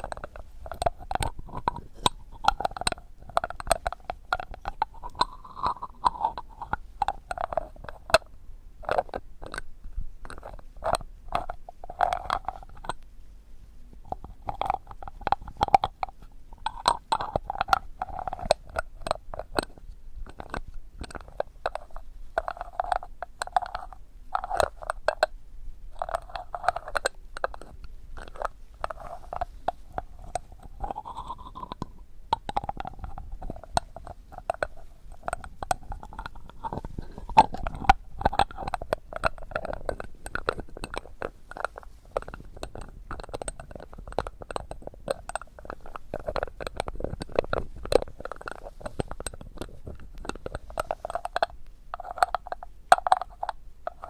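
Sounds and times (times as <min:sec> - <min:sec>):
sharp clicks and crackles: 0:00.0 - 0:13.1, 0:14.0 - 0:54.0.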